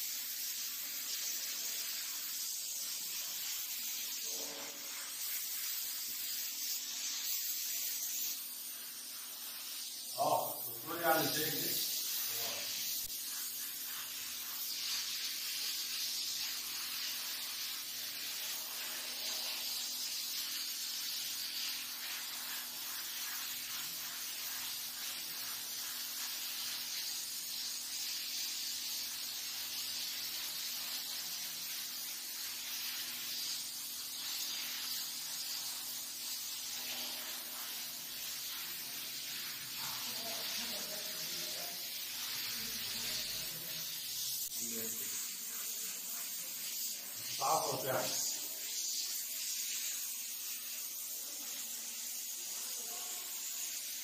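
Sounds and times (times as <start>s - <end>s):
paint spray gun hissing: 0.0s - 54.0s.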